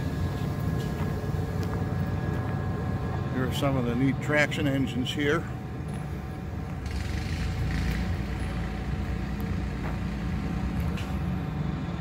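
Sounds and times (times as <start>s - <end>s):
machinery rumble: 0.0s - 12.0s.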